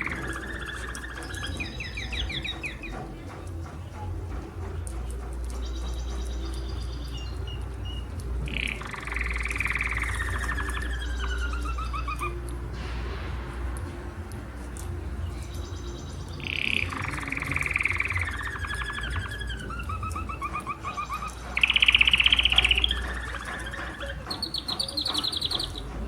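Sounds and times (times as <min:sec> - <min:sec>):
canary singing trills: 0:00.0 - 0:13.7, 0:14.5 - 0:26.0.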